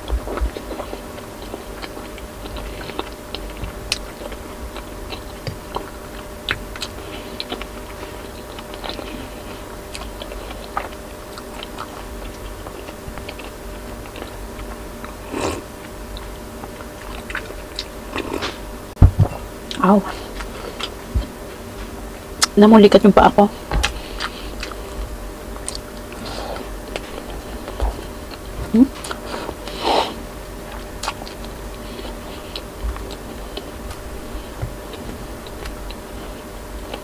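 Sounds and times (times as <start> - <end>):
person chewing food: 0.0 - 22.6, 23.5 - 37.0.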